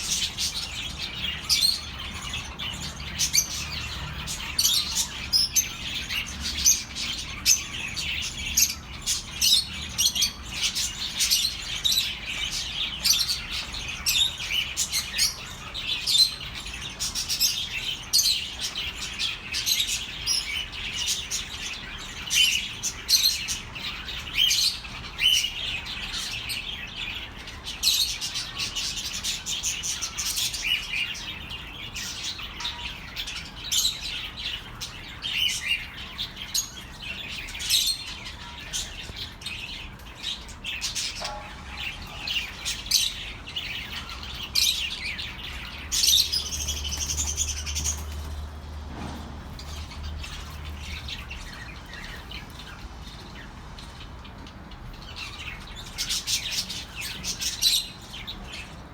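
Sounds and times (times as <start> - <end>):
budgerigars chirping: 0.0 - 48.3.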